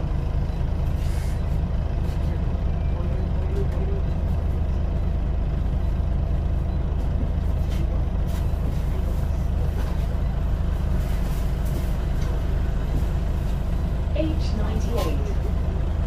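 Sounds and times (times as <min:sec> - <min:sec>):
bus diesel engine rumble: 0:00.0 - 0:16.0.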